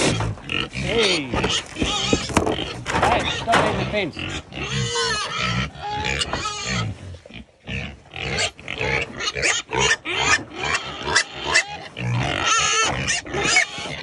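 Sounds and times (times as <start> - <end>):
boar grunting: 0.0 - 14.0.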